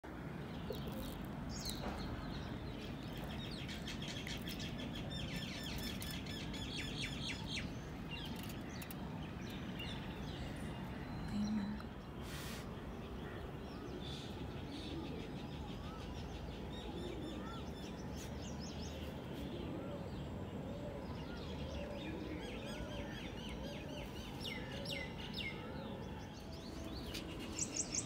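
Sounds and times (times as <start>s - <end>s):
outdoor background noise: 0.0s - 28.0s
small birds chirping: 0.4s - 20.2s, 20.8s - 28.0s.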